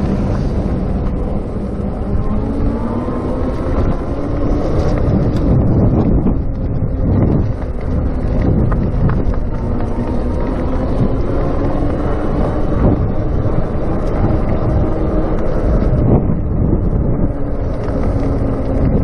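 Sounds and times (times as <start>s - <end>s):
electric bicycle rumble: 0.0s - 19.0s
wind buffeting microphone: 0.0s - 19.0s.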